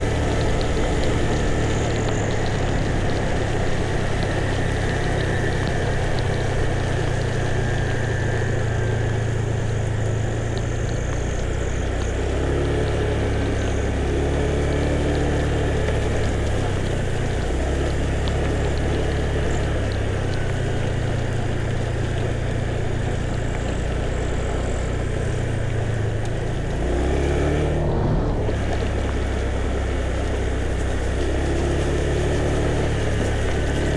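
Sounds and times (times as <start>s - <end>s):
road noise hiss: 0.0s - 33.9s
vehicle engine humming: 0.0s - 33.9s.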